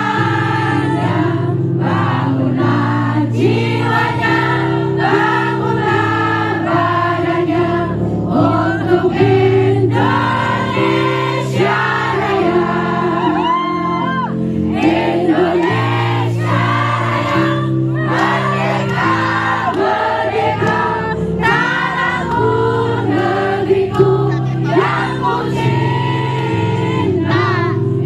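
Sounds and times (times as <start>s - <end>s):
crowd singing along: 0.0s - 28.0s.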